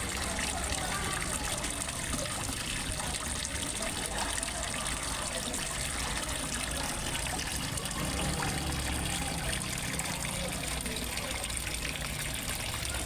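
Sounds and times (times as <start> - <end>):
water splashing into pond: 0.0 - 13.0.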